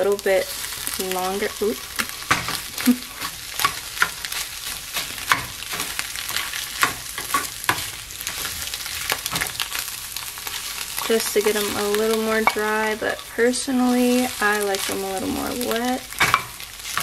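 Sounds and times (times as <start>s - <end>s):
eggs sizzling: 0.0s - 17.0s
spatula scraping and tapping a pan: 0.7s - 17.0s.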